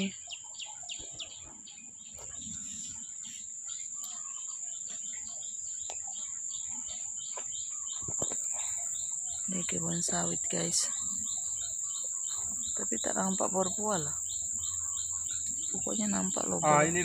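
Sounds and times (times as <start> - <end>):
birds chirping: 0.0 - 17.0
insects droning whine: 0.0 - 17.0.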